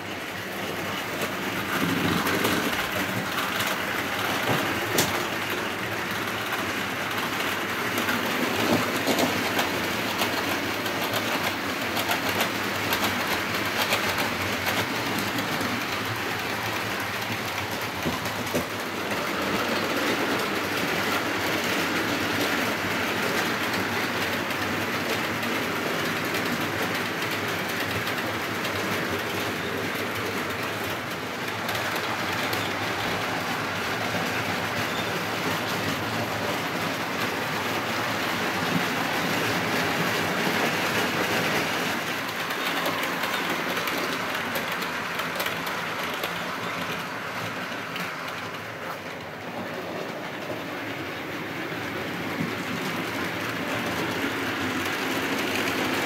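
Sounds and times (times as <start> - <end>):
model train wheels rattling: 0.0 - 56.0.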